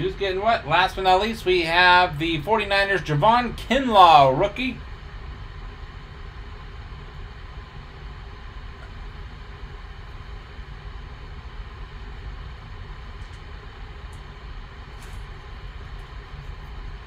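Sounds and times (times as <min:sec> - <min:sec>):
room noise rumble and hiss: 0:00.0 - 0:17.0.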